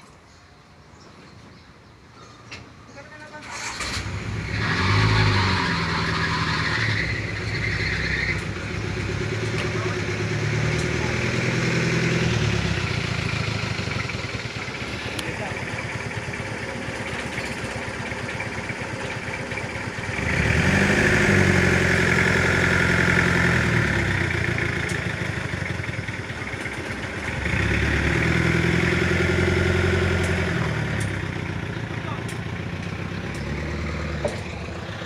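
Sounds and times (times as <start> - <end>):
vehicle engine idling and revving: 2.7 - 35.0.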